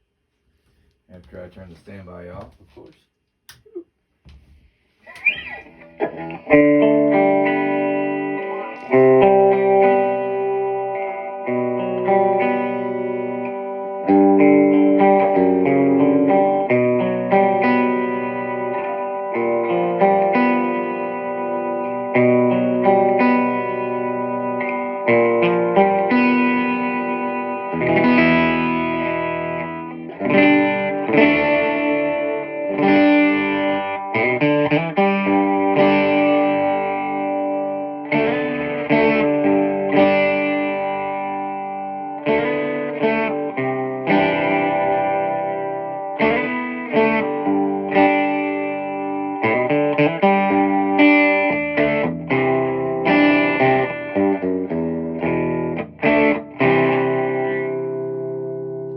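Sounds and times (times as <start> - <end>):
electric guitar chords and strumming: 3.5 - 58.9.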